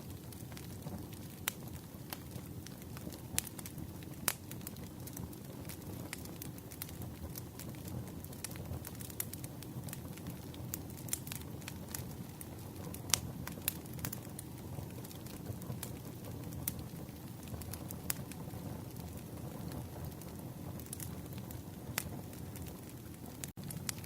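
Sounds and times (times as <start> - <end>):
campfire flames rumbling: 0.0 - 24.0
fire crackles and pops: 0.0 - 24.0.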